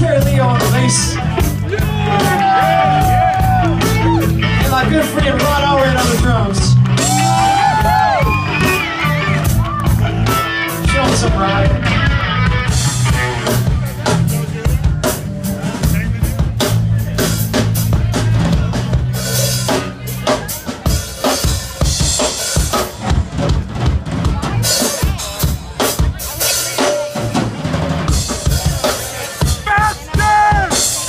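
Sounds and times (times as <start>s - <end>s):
drum kit playing: 0.0s - 31.0s
live band playing: 0.0s - 31.0s.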